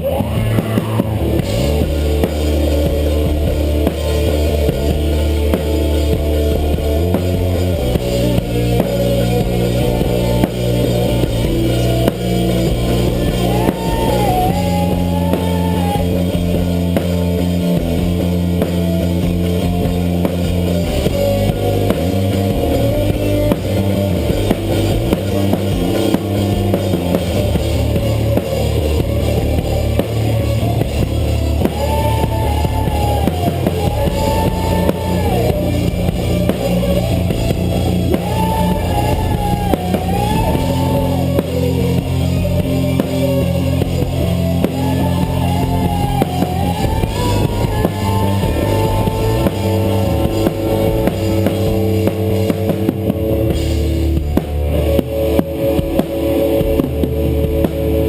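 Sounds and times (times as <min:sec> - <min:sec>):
drum kit: 0:00.0 - 0:58.0
guitar: 0:00.0 - 0:58.0
high bending melodic line: 0:00.0 - 0:58.0
low bass notes: 0:00.0 - 0:58.0.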